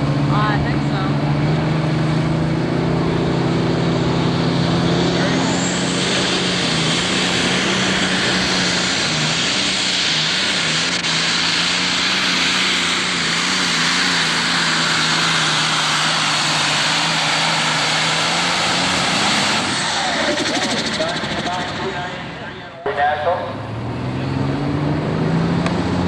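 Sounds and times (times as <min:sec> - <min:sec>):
diesel engine at full throttle: 0:00.0 - 0:26.0
exhaust and turbo hiss: 0:00.0 - 0:26.0.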